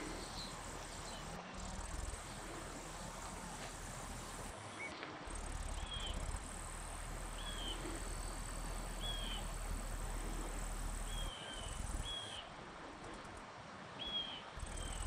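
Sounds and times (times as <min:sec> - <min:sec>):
insects humming: 0:00.0 - 0:13.4, 0:14.6 - 0:15.0.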